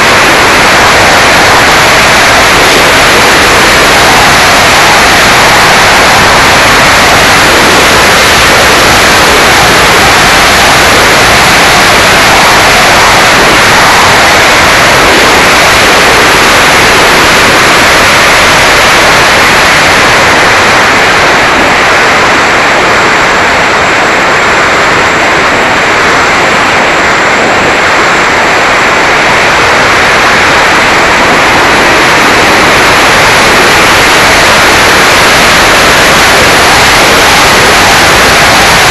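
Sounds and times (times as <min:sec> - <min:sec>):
propeller noise: 0:00.0 - 0:38.9
wind rush on microphone: 0:00.0 - 0:38.9.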